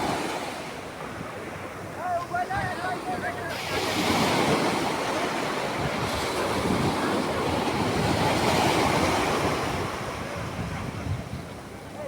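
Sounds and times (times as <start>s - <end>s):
sea waves washing onto beach: 0.0s - 12.0s.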